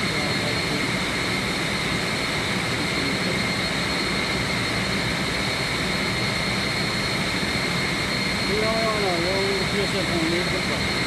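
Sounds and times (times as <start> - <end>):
high-pitched machine whine: 0.0 - 11.0
machinery hum and hiss: 0.0 - 11.0.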